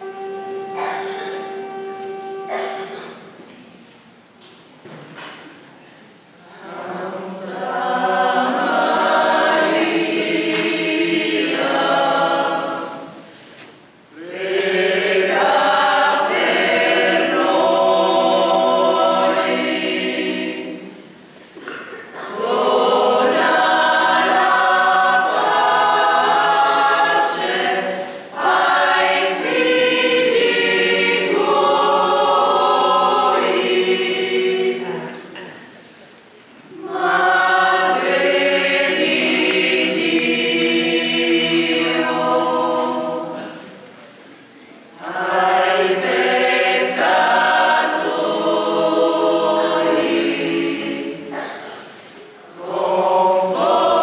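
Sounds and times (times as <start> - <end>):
mixed choir singing a cappella: 0.0 - 3.4, 6.0 - 35.8, 36.7 - 54.0.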